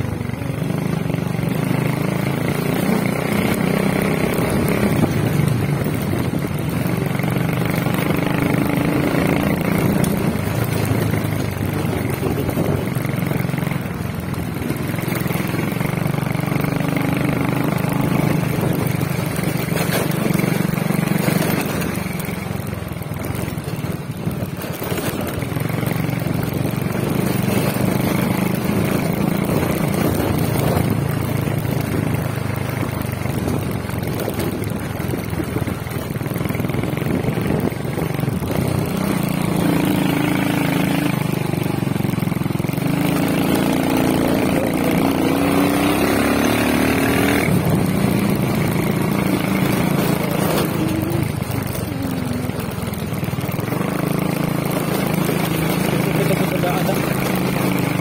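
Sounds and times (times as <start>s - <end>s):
motorcycle engine revving: 0.0s - 58.0s
road and wind noise: 0.0s - 58.0s.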